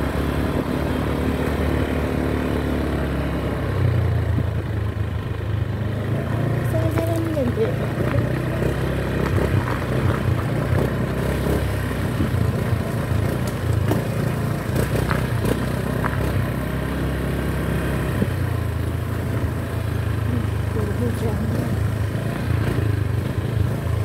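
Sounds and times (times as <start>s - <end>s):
small motorcycle engines running: 0.0s - 24.0s.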